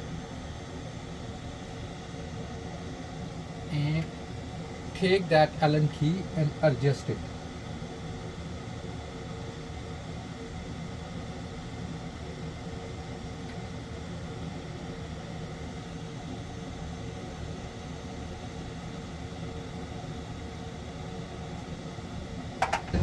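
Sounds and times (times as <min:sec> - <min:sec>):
vent motor humming: 0:00.0 - 0:10.4, 0:11.4 - 0:23.0.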